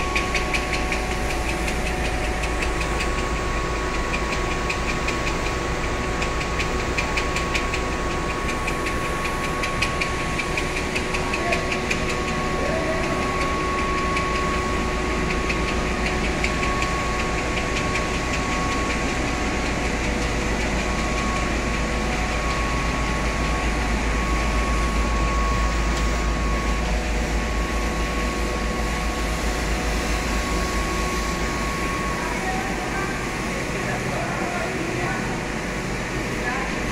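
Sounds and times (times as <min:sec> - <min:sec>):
machinery droning: 0:00.0 - 0:36.9.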